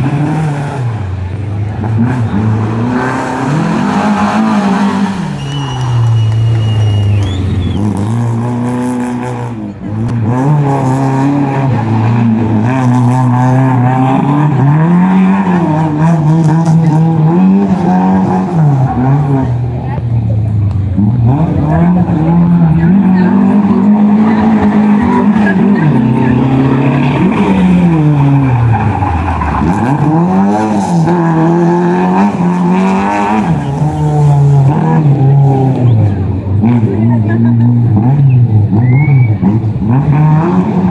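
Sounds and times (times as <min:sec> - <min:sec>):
car engine at high revs: 0:00.0 - 0:40.9.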